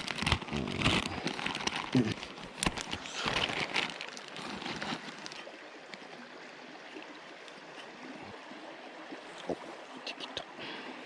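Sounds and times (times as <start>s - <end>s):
mountain stream running: 0.0s - 11.0s.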